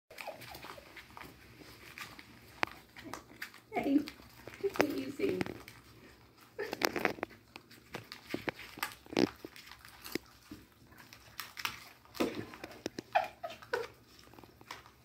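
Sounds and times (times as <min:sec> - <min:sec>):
food packaging crinkling: 0:00.1 - 0:15.0
raccoons chewing and smacking: 0:00.1 - 0:15.0.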